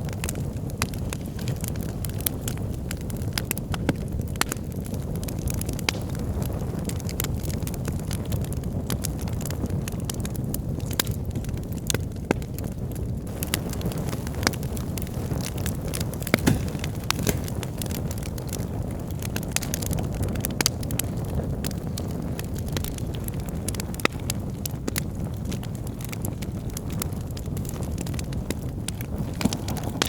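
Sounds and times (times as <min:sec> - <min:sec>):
burning logs crackling and popping: 0:00.0 - 0:30.0
low roar of flames: 0:00.0 - 0:30.0.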